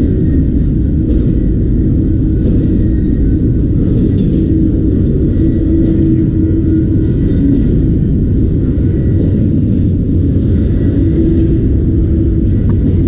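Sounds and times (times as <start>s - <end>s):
freight train wheels rumbling on rail: 0.0s - 13.0s.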